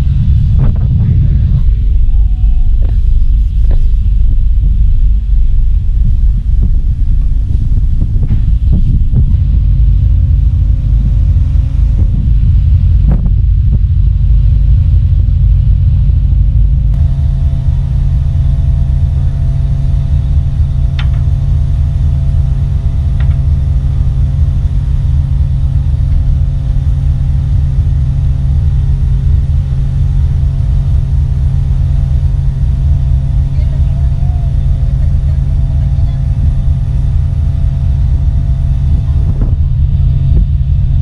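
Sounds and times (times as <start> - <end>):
ferry engines rumbling: 0.0 - 41.0
machinery hum with held tones: 0.0 - 41.0
wind on microphone: 0.0 - 41.0.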